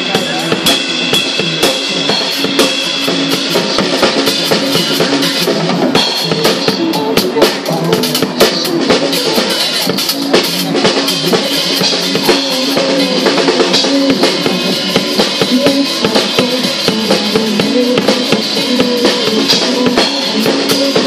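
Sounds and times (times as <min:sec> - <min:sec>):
drum kit playing a beat: 0:00.0 - 0:21.0
pop backing track: 0:00.0 - 0:21.0.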